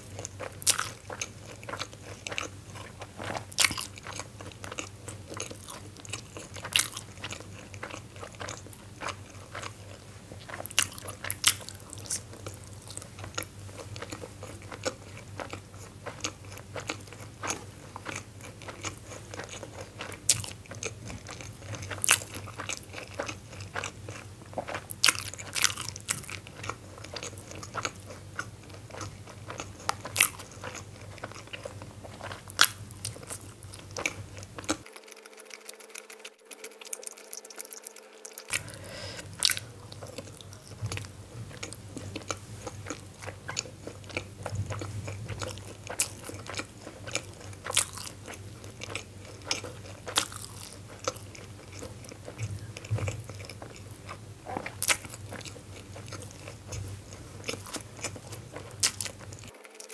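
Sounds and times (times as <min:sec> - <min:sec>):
chewing soft dumplings: 0:00.0 - 0:59.9
low steady hum: 0:00.0 - 0:59.9.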